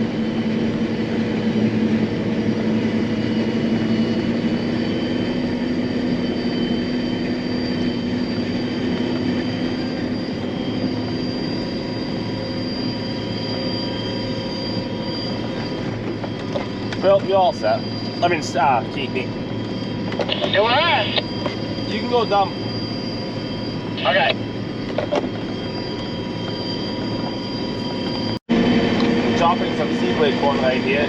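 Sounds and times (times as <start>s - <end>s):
harvester drone with high whine: 0.0s - 31.0s.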